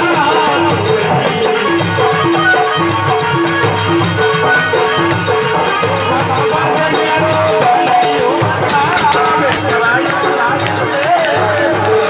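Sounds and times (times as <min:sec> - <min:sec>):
folk melody over percussion: 0:00.0 - 0:12.0.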